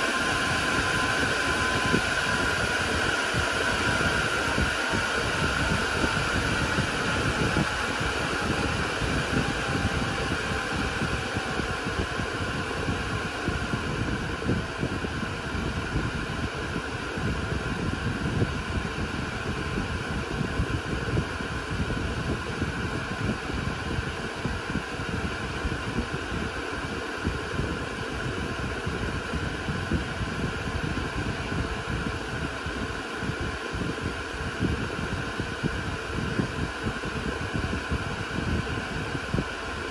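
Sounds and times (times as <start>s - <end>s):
cooling fans whirring and whining: 0.0s - 39.9s.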